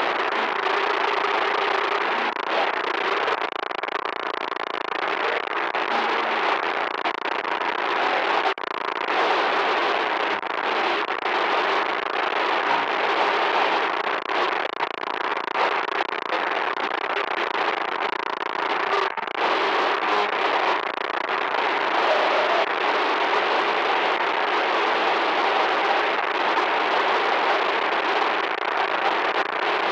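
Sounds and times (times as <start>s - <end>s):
loud static hiss: 0.0s - 29.9s.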